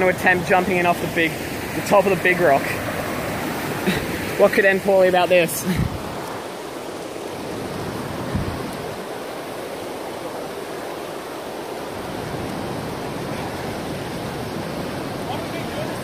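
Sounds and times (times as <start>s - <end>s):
creek water rushing over rocks: 0.0s - 16.0s.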